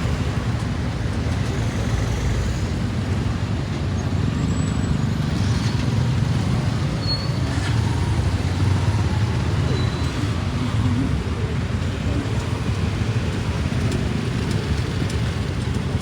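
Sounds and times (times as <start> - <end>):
motorcycle engine and road noise: 0.0 - 16.0.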